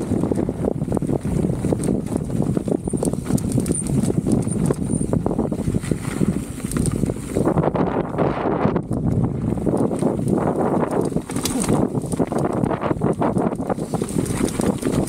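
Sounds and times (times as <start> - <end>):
mountain bike clattering: 0.0 - 8.2, 8.9 - 15.0.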